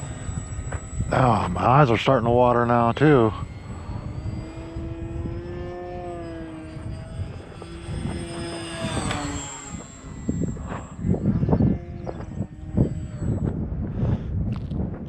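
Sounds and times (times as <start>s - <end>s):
model airplane motor whining: 0.0s - 14.7s
wind buffeting microphone: 0.0s - 15.0s.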